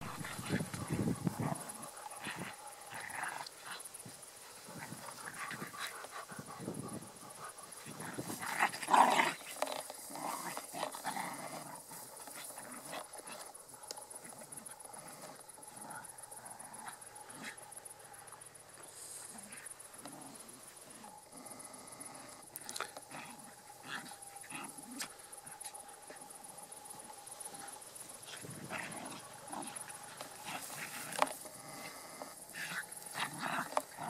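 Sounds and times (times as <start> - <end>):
dogs growling in play: 0.0 - 34.0.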